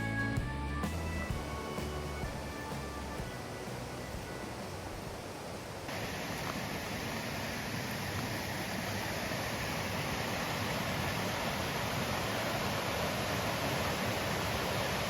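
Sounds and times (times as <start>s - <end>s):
steady rushing hiss: 0.8s - 15.0s.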